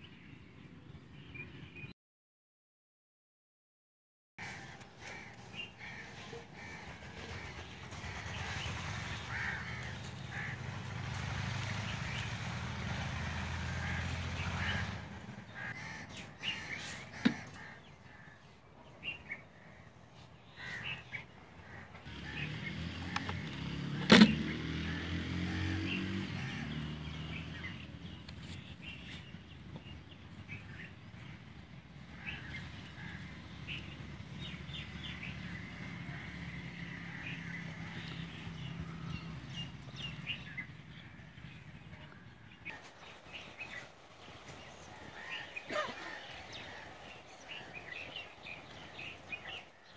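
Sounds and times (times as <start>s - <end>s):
small birds chirping: 4.6s - 49.9s.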